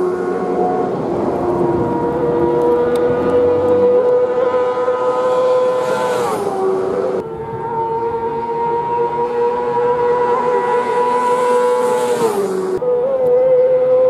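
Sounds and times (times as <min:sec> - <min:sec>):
engine passing at speed: 0:00.0 - 0:12.9
racing engine at high revs: 0:00.0 - 0:14.0.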